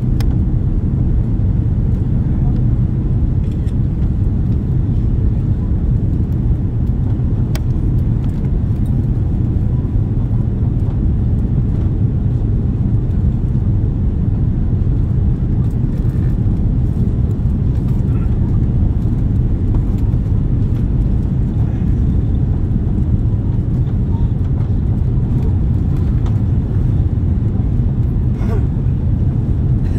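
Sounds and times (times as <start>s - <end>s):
airplane cabin rumble: 0.0s - 29.9s.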